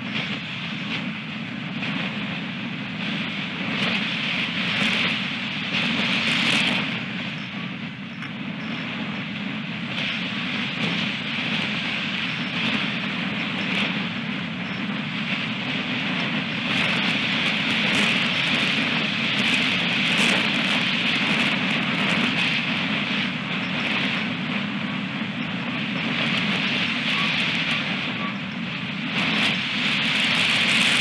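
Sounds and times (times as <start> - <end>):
strong wind on microphone: 0.0 - 31.0.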